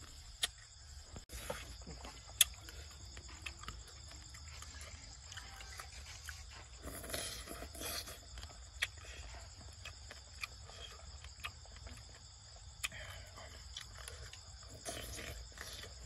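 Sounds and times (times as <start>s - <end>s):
crickets chirping: 0.0s - 16.0s
slurping and mouth sounds: 1.3s - 12.1s, 12.8s - 16.0s.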